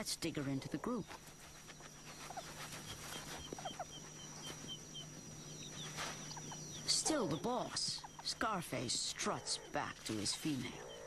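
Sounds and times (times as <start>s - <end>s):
meerkats squeaking: 0.0s - 11.0s.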